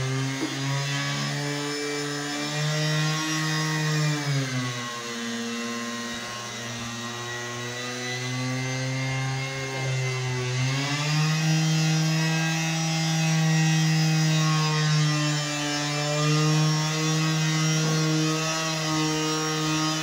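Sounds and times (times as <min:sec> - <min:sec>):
electric marble cutter whine: 0:00.0 - 0:20.0.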